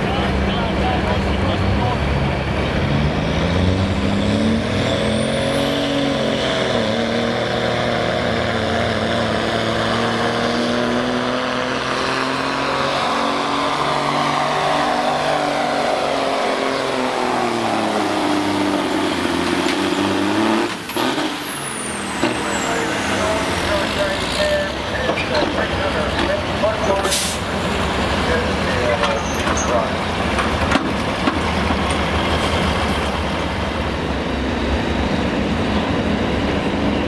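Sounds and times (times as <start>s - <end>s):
diesel truck engine under load: 0.0s - 37.0s.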